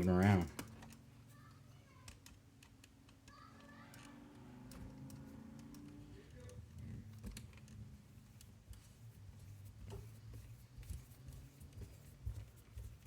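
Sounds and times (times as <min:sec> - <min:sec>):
small parts clicking and tapping: 0:00.0 - 0:13.0.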